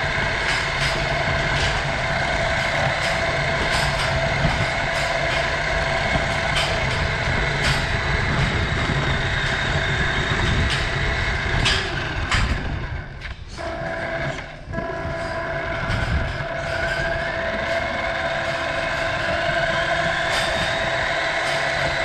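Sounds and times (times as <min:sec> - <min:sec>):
electric motor whining: 0:00.0 - 0:22.0
wheels rumbling on concrete: 0:00.0 - 0:22.0.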